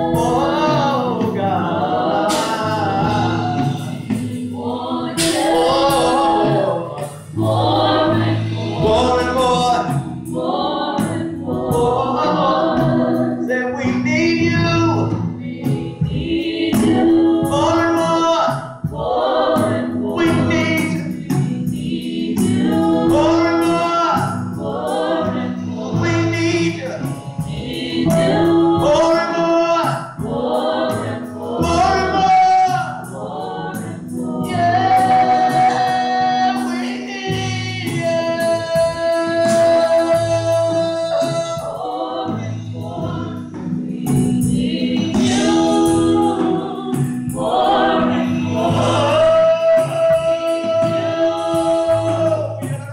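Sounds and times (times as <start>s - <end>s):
gospel singing voices: 0.0s - 52.9s
held keyboard chords: 0.0s - 52.9s.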